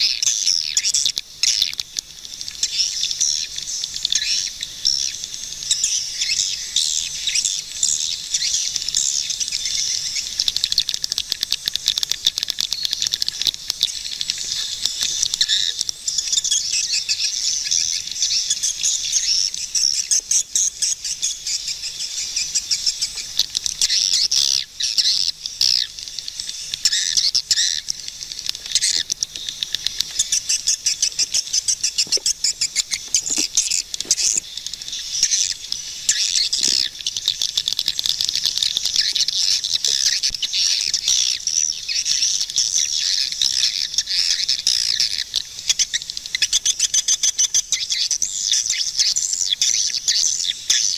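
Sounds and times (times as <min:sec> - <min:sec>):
swiftlets chirping and twittering: 0:00.0 - 0:50.9.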